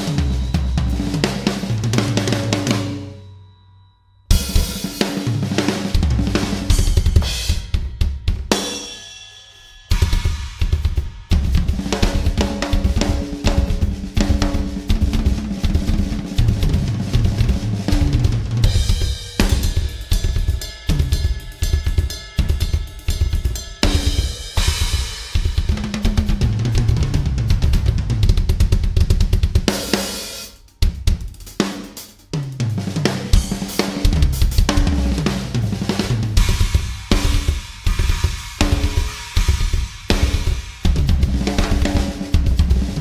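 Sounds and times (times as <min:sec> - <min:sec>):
drum kit played with sticks: 0:00.0 - 0:03.4, 0:04.3 - 0:43.0
cymbals and hi-hat ringing: 0:00.0 - 0:16.4, 0:17.8 - 0:26.6, 0:33.1 - 0:43.0.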